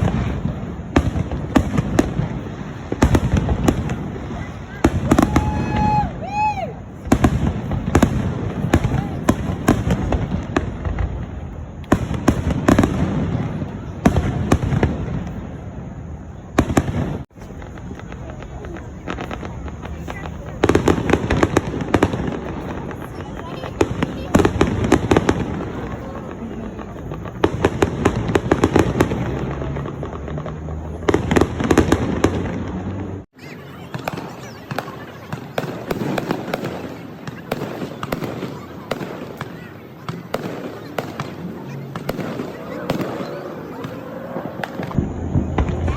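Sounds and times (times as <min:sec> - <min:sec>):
fireworks bangs and cracks: 0:00.0 - 0:45.9.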